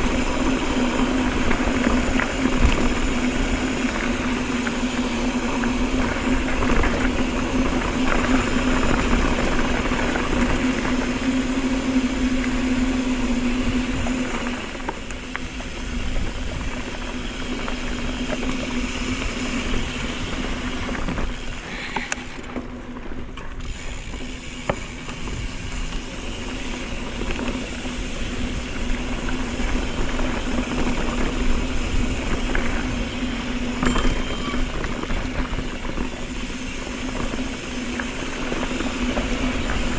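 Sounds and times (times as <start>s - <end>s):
bike freewheel buzzing: 0.0s - 39.9s
tyres rumbling on gravel: 0.0s - 39.9s.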